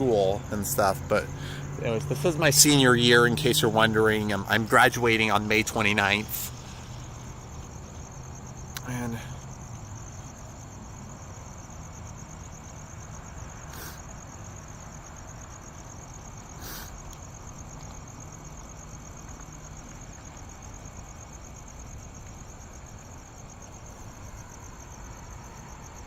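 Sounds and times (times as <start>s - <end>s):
distant traffic hum: 0.0s - 26.0s
insects chirping: 0.0s - 26.0s.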